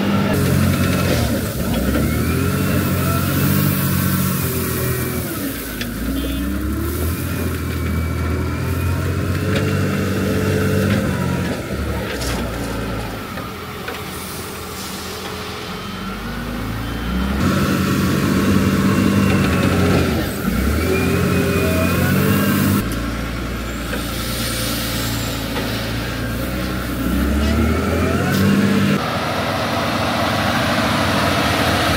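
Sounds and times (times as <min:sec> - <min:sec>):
road-works machinery engines running: 0:00.0 - 0:31.9.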